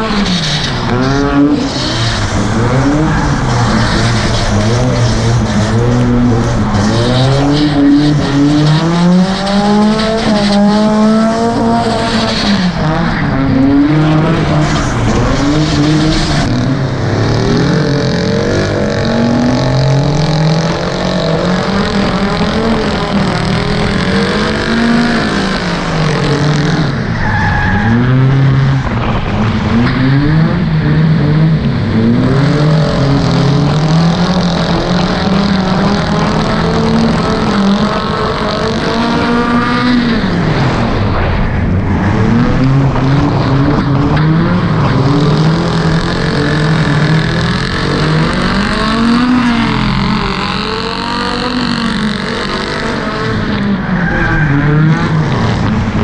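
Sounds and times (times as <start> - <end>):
car engine revving unevenly: 0.0 - 56.0.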